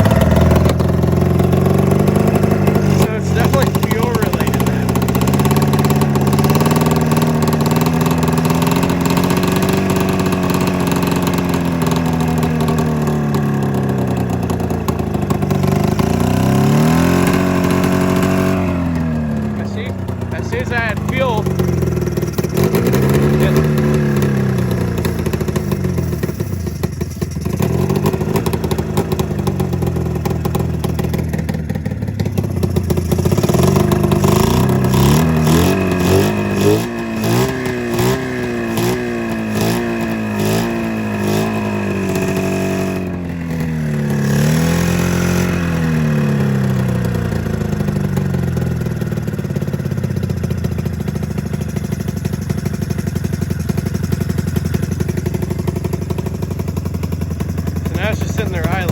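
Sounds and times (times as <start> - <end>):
misfiring snowmobile engine revving: 0.0 - 49.6, 54.1 - 58.9.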